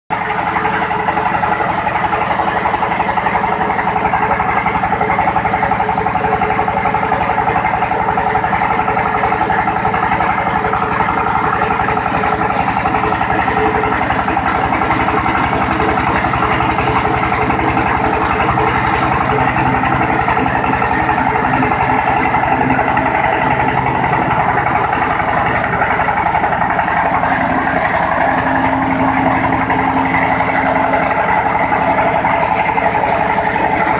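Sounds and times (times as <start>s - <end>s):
pellet mill droning: 0.1s - 33.9s.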